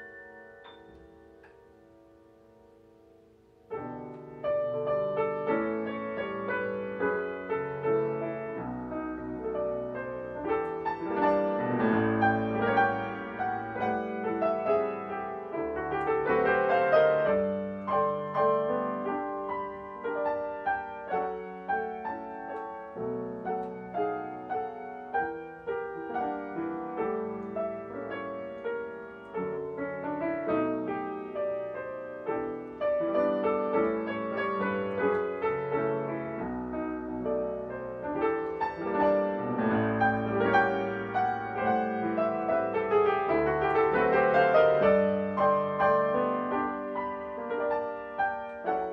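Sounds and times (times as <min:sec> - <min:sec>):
calm solo piano melody: 0:00.0 - 0:48.9.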